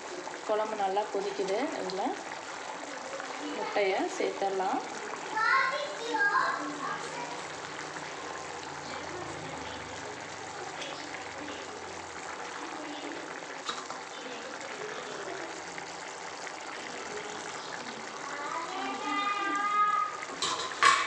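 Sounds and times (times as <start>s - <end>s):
curry bubbling in a pan: 0.0s - 21.0s.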